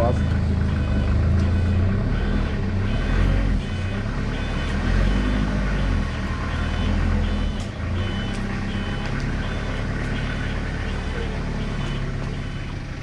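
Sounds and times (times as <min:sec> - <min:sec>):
diesel engine rumbling: 0:00.0 - 0:13.0
reversing alarm beeps: 0:00.7 - 0:12.9.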